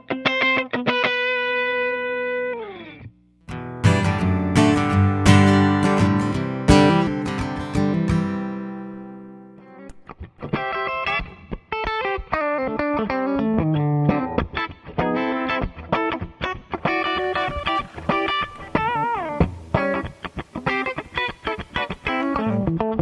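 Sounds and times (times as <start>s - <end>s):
electric guitar: 0.0s - 23.0s.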